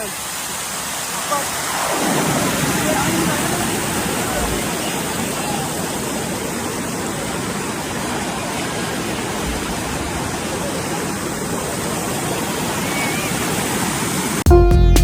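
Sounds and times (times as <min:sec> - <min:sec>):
water rushing: 0:00.0 - 0:14.5.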